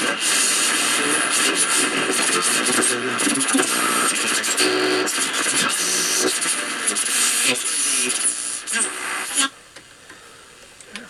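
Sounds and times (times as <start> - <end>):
radio hiss and static: 0.0 - 11.0.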